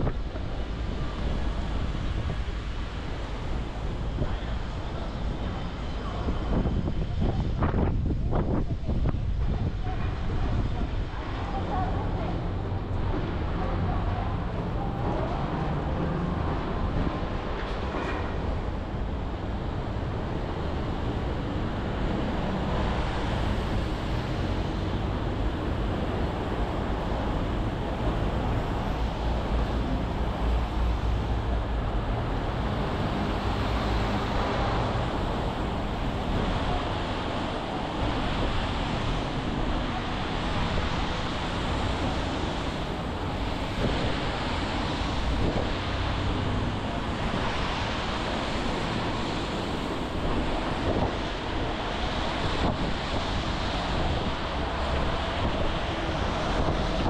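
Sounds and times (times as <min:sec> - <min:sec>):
road traffic rumble: 0:00.0 - 0:57.0
wind: 0:00.0 - 0:57.0.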